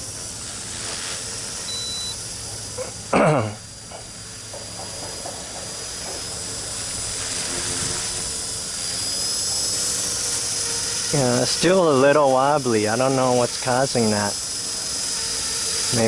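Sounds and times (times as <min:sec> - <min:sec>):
rc helicopter motor whine: 0:00.0 - 0:16.0
rotor hiss: 0:00.0 - 0:16.0.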